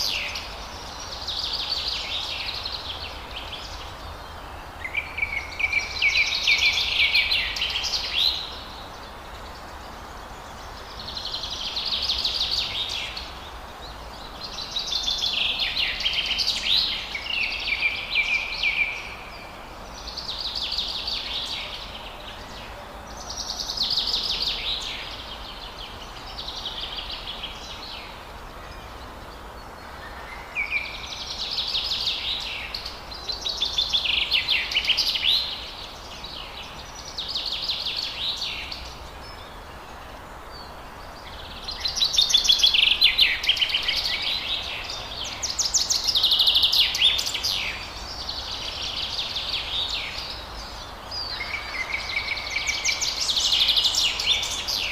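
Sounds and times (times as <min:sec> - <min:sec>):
songbird singing high phrases: 0:00.0 - 0:54.9
steady background hiss: 0:00.0 - 0:54.9.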